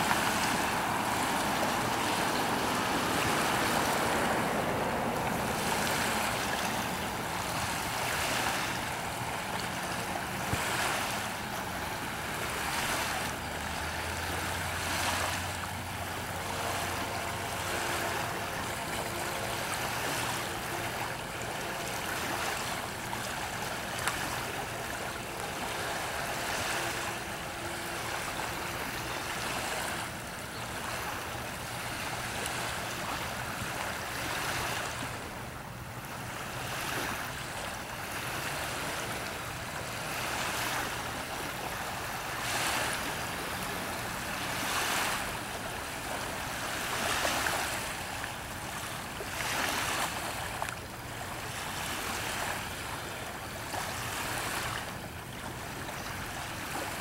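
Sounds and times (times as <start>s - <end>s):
small waves lapping: 0.0s - 57.0s.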